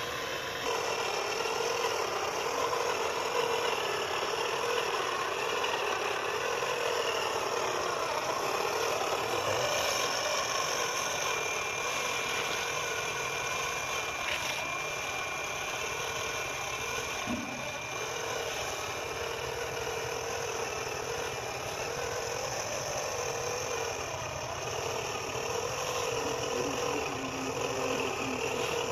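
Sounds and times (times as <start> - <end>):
small electric motor whining: 0.0 - 28.9.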